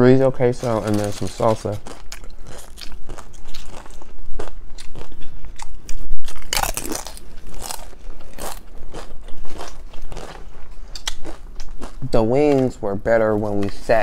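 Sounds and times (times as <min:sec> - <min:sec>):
tortilla chip crunching: 0:00.5 - 0:12.8.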